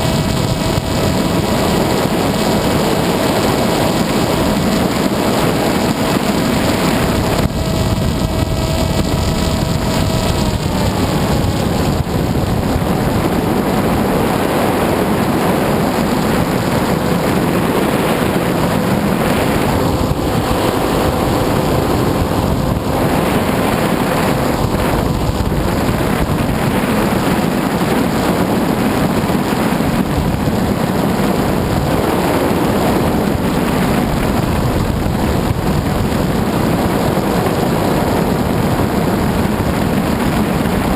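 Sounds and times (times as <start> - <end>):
motor and propeller whine: 0.0 - 40.9
wind rush over microphone: 0.0 - 40.9.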